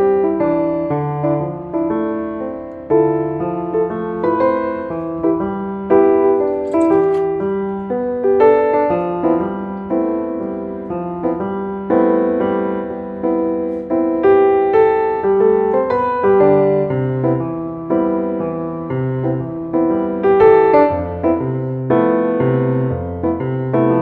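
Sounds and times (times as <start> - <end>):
gentle piano piece: 0.0 - 24.0.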